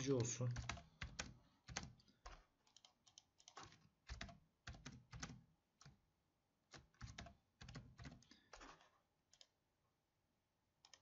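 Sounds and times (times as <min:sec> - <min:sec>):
faint keyboard typing: 0:00.0 - 0:09.6, 0:10.8 - 0:11.0.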